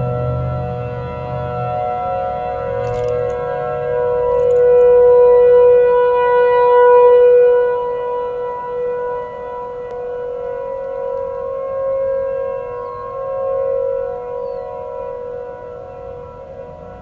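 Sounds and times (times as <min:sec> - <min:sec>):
outdoor warning sirens: 0:00.0 - 0:17.0.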